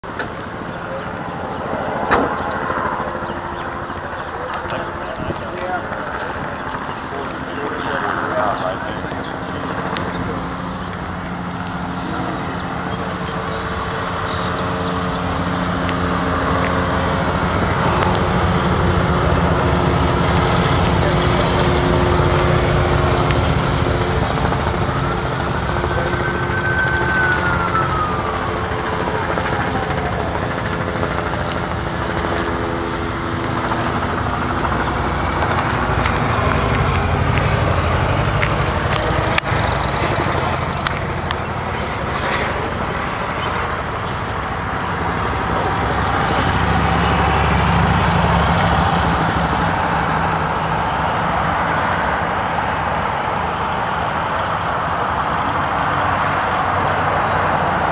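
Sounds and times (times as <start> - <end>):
siren wailing: 0.0 - 57.9
vehicles passing: 0.0 - 57.9.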